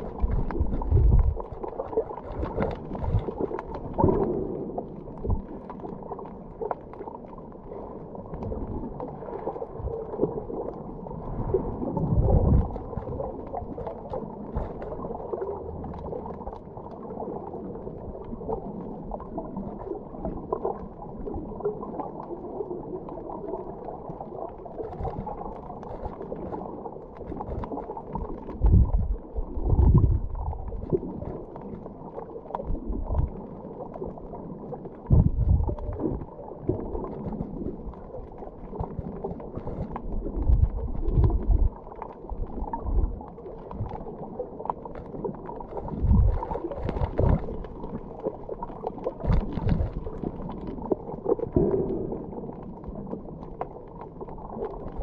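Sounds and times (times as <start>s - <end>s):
low underwater whooshes: 0.0s - 55.0s
muffled underwater water rush: 0.0s - 55.0s.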